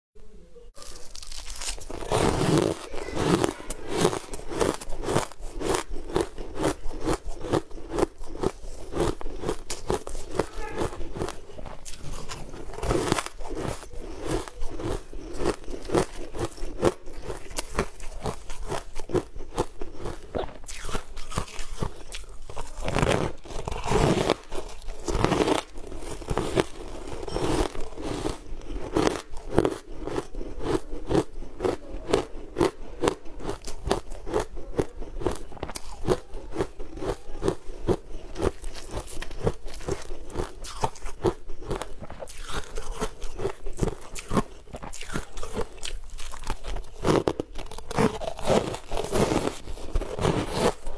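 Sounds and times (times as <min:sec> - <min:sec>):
crunching and chewing frozen food: 0:00.8 - 0:50.9.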